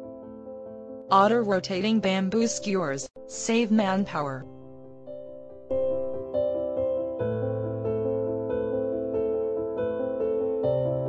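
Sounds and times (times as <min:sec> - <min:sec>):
soft keyboard music: 0:00.0 - 0:11.0.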